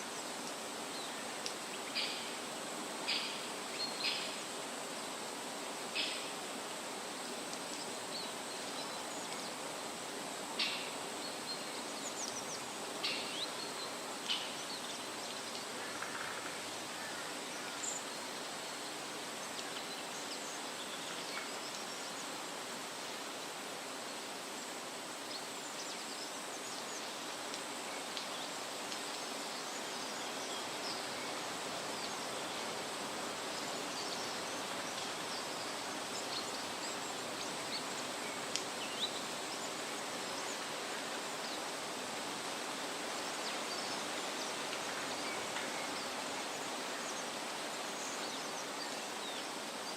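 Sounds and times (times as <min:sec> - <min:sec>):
wind rustling tree leaves: 0:00.0 - 0:49.9.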